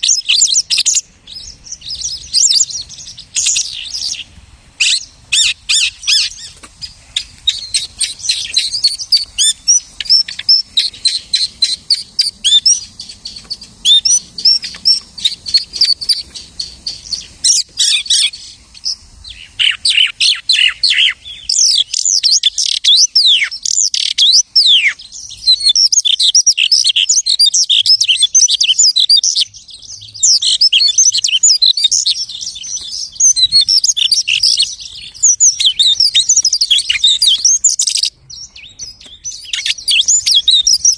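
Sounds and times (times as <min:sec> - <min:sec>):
lark singing: 0:00.0 - 0:40.9.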